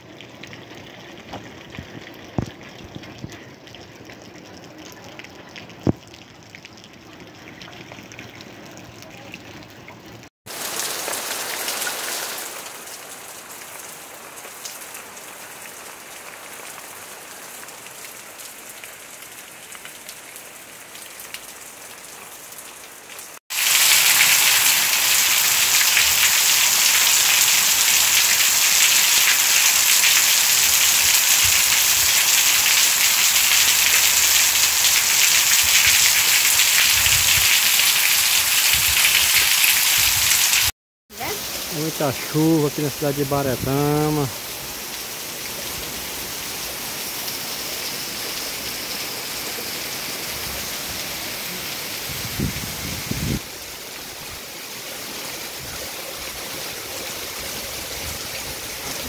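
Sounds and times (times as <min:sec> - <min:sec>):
heavy rain on concrete: 0:00.0 - 0:59.0
rain on plants and trees: 0:00.0 - 0:59.0.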